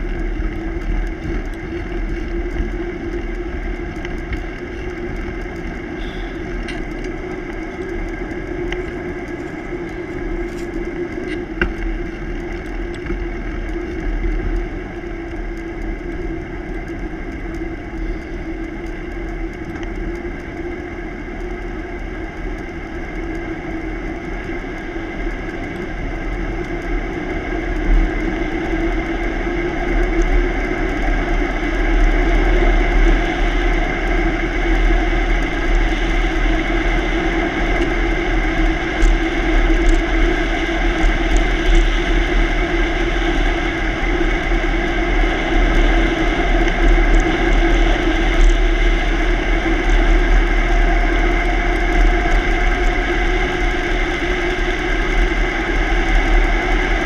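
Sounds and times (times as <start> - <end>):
bicycle tyre hum on asphalt: 0.0 - 57.0
faint clicks: 0.0 - 57.0
low wind rumble on microphone: 0.0 - 57.0.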